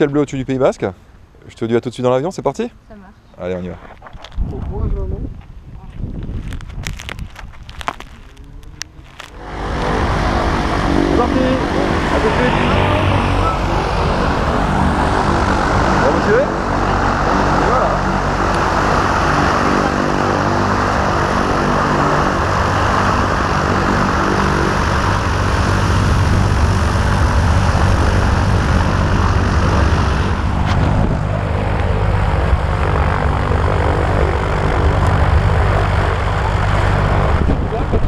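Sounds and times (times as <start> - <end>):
propeller plane engine running: 4.6 - 38.0.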